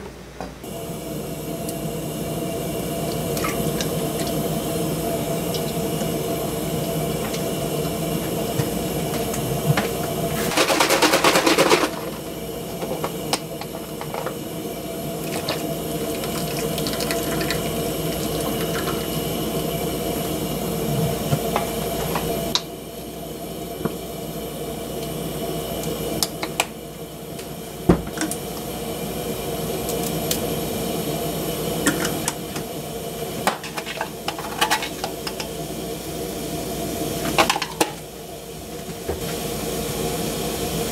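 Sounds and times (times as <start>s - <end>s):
food hissing and bubbling in pot: 0.6s - 40.9s.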